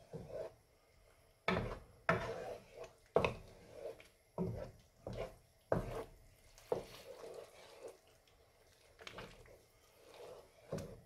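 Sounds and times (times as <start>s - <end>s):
wooden spoon scraping a pan: 0.0s - 0.6s, 1.4s - 11.0s.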